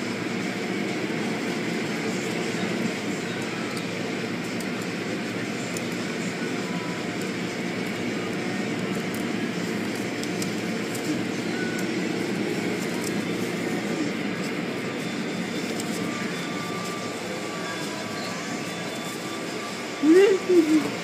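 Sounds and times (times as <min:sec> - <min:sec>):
car wash equipment roaring: 0:00.0 - 0:21.0.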